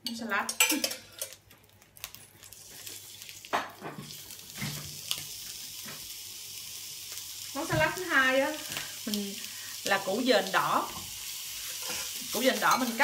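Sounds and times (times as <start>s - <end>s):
meat patty sizzling in pan: 2.4s - 13.0s.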